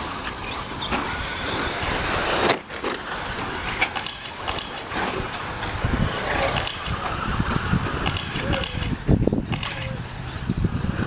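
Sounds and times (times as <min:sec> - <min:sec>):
rc truck motors whining: 0:00.0 - 0:11.0
running rc trucks: 0:00.0 - 0:11.0.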